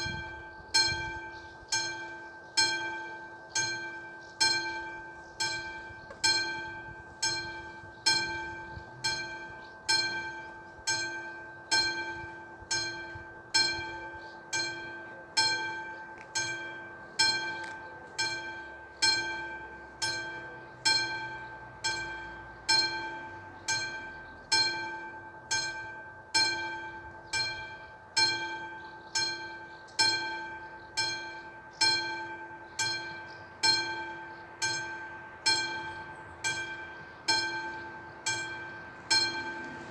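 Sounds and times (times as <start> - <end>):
level crossing warning bell ringing: 0.0 - 39.9.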